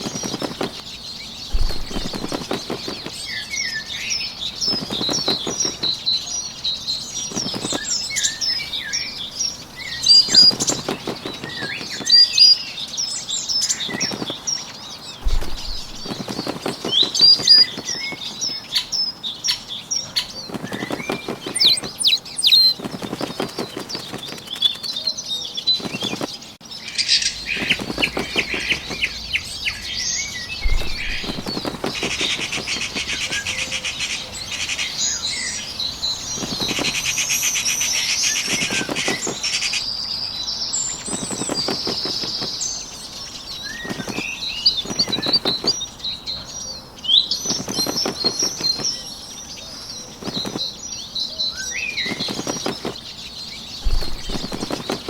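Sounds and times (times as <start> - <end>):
bird wings flapping: 0.0 - 26.6, 27.2 - 39.8, 40.6 - 46.5, 47.2 - 51.1, 51.9 - 55.0
small birds chirping: 0.0 - 55.0.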